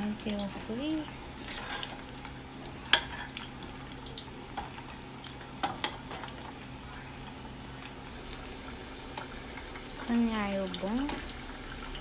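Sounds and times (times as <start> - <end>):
frying in hot oil: 0.0 - 12.0.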